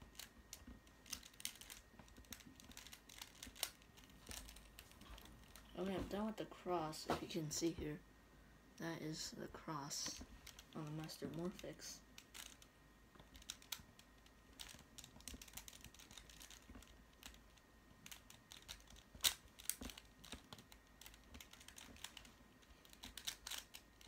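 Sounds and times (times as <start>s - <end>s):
plastic puzzle clicking: 0.1s - 5.6s, 10.2s - 24.0s.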